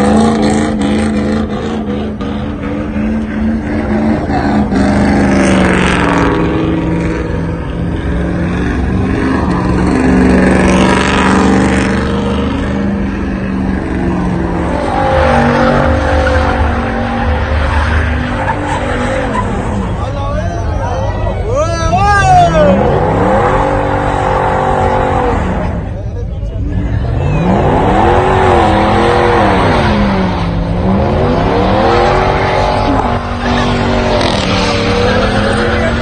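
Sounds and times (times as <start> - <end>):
truck engine at high revs: 0.0 - 21.2, 22.2 - 36.0.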